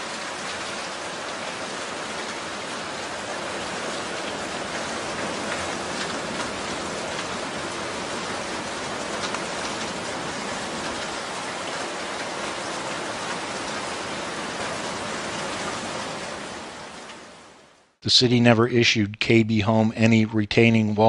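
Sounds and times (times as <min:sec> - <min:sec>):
heavy rain hissing: 0:00.0 - 0:17.6.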